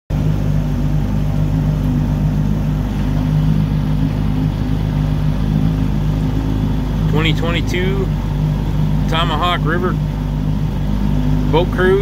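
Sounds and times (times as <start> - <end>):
outboard motor running: 0.1 - 12.0.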